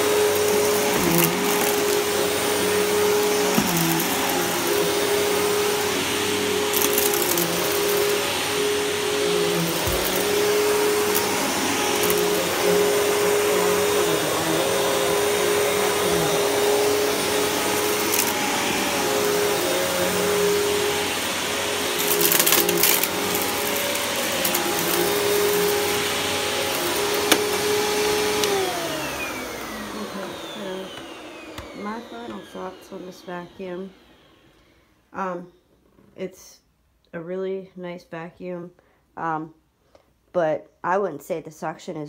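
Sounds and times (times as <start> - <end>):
vacuum cleaner running: 0.0 - 35.3.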